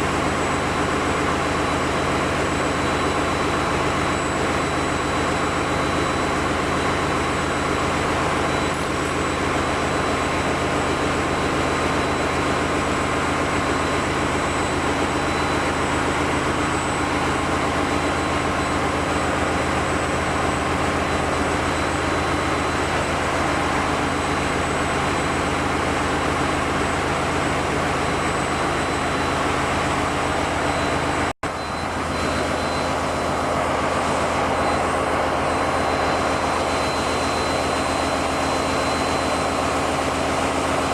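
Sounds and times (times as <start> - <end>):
diesel generator engines humming: 0.0 - 40.9.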